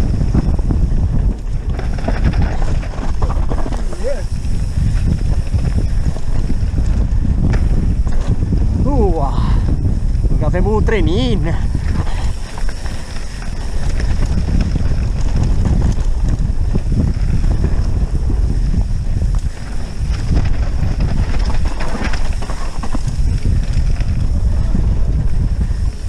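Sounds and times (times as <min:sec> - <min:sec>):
bike clattering over bumps: 0:00.0 - 0:08.9, 0:09.7 - 0:26.0
tyres rumbling over dirt: 0:00.0 - 0:26.0
wind buffeting microphone: 0:00.0 - 0:26.0.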